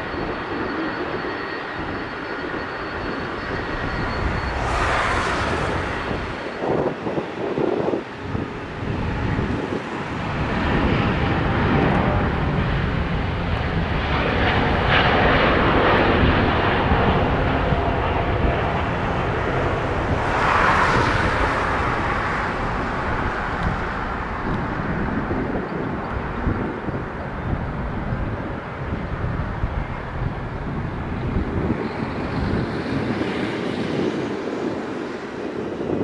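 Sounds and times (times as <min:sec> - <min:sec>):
jet engine roar: 0:00.0 - 0:36.0
wind rumble on microphone: 0:00.0 - 0:36.0.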